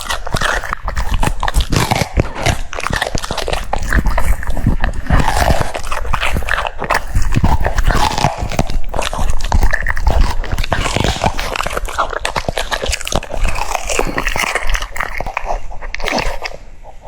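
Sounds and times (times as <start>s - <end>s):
dog chewing and crunching food: 0.0s - 17.0s.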